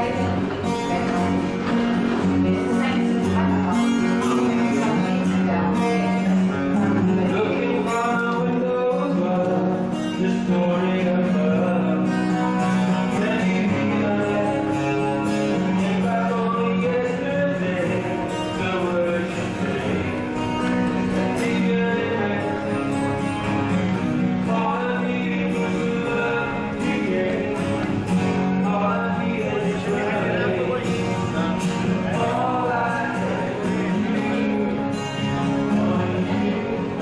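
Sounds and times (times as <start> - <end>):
guitar accompaniment: 0.0 - 37.0
man singing: 0.0 - 37.0.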